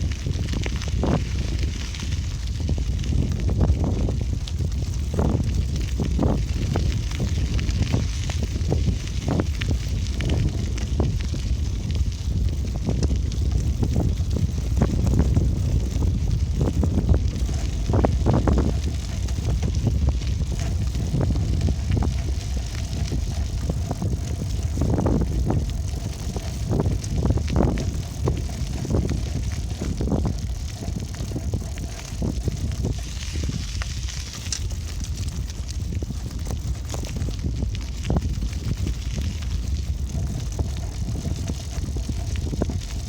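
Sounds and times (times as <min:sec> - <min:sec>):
bicycle rattles and knocks: 0:00.0 - 0:43.0
low rumble: 0:00.0 - 0:43.0
wind buffeting microphone: 0:00.0 - 0:43.0.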